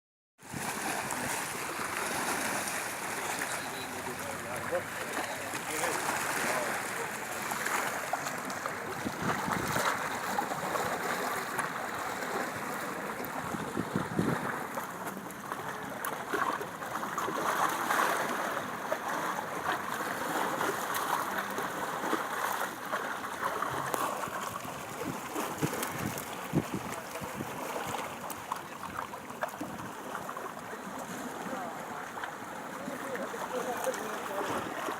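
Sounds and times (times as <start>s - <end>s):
waves lapping at water's edge: 0.4s - 34.9s
small water splashes and clicks: 0.6s - 34.9s.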